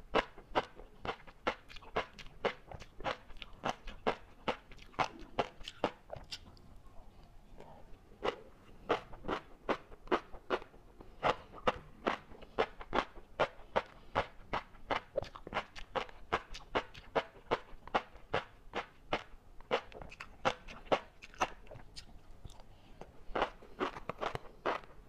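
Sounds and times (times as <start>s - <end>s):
chewing fish roe popping: 0.1s - 25.0s.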